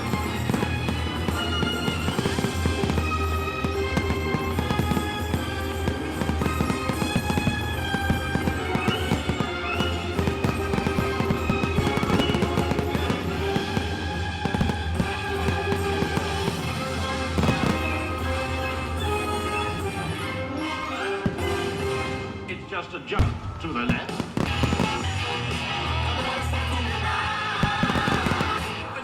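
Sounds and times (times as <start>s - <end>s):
fireworks bangs and crackles: 0.0s - 29.0s
music playing: 0.0s - 29.0s.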